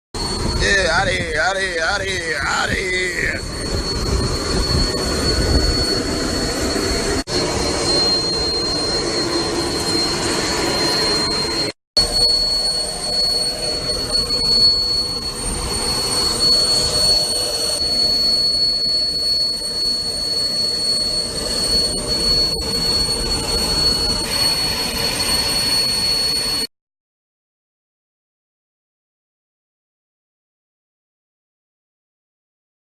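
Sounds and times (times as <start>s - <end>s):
high steady engine whine: 0.2s - 26.7s.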